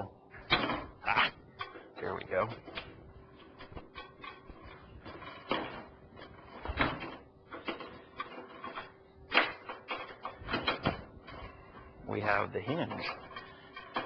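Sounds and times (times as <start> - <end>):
metal parts clicking and clattering: 0.4 - 14.0.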